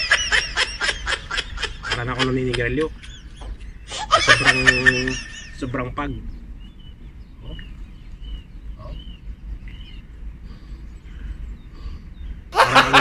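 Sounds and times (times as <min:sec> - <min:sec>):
bird chirping: 0:00.0 - 0:12.6
low rumble: 0:01.0 - 0:12.6.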